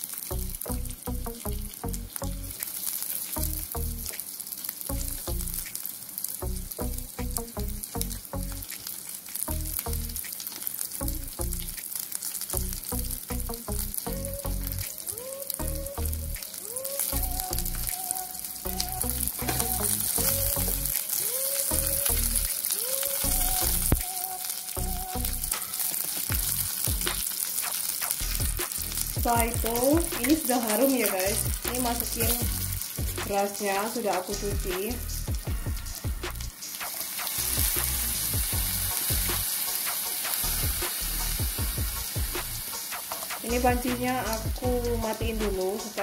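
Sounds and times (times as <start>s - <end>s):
light rhythmic background music: 0.0s - 46.0s
vegetables sizzling in oil: 0.0s - 46.0s.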